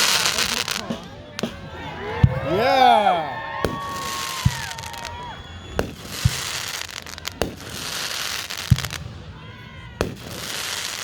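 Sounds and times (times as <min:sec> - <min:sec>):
fireworks crackling hiss: 0:00.0 - 0:01.8, 0:03.6 - 0:11.0
firework whistling: 0:00.0 - 0:11.0
fireworks booming: 0:00.0 - 0:11.0.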